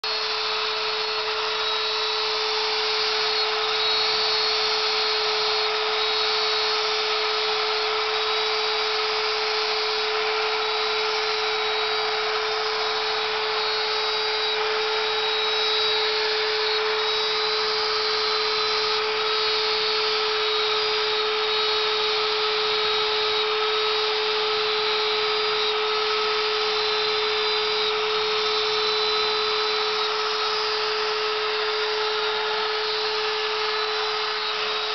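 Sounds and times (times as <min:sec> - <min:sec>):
bit cutting wood hiss: 0:00.0 - 0:34.9
router spindle whine: 0:00.0 - 0:34.9.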